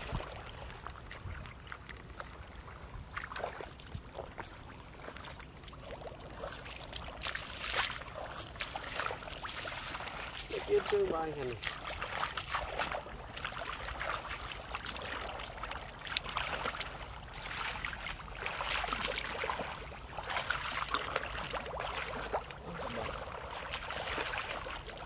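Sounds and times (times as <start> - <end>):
muddy water sloshing: 0.0 - 25.0
small splashes and drips: 0.0 - 25.0.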